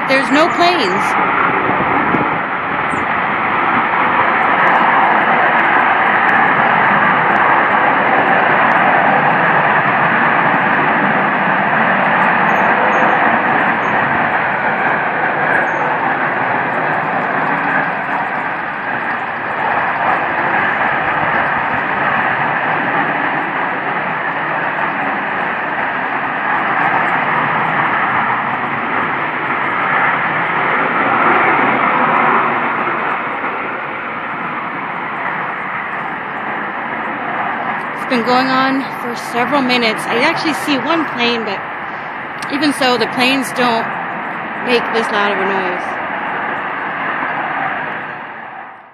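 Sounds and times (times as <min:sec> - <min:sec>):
loud roaring noise from the sky: 0:00.0 - 0:48.9.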